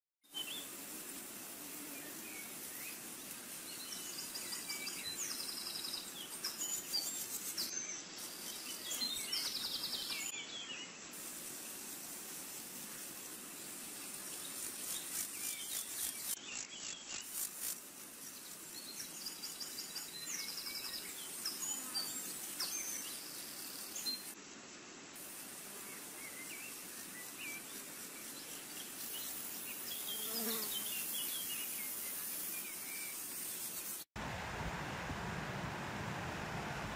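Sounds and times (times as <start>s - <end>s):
steady hiss: 0.3s - 16.4s, 17.1s - 36.9s
insects buzzing and trilling: 0.3s - 34.1s.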